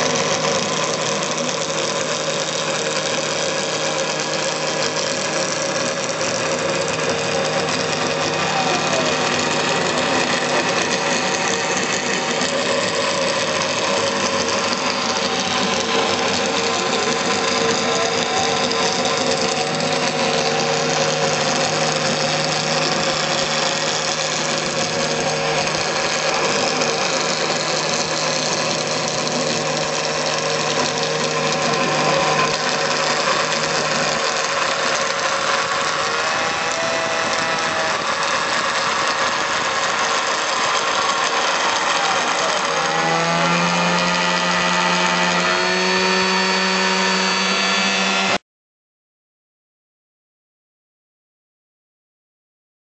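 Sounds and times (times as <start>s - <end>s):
machine pitch glides: 0.0s - 48.4s
milling machine cutting plastic: 0.0s - 48.4s.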